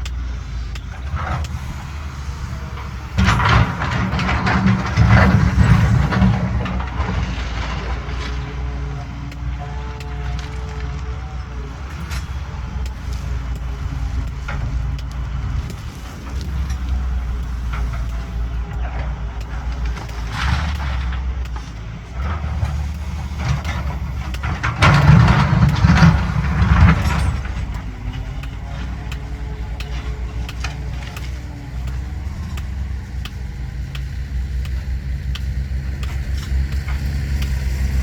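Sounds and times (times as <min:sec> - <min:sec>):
clattering noise: 0:00.0 - 0:38.0
excavator diesel engine running: 0:00.0 - 0:38.0.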